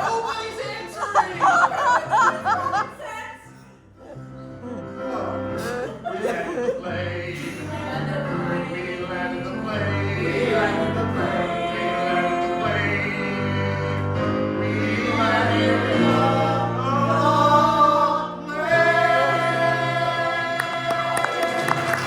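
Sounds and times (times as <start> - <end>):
voices singing in harmony: 0.0 - 3.2, 4.9 - 22.0.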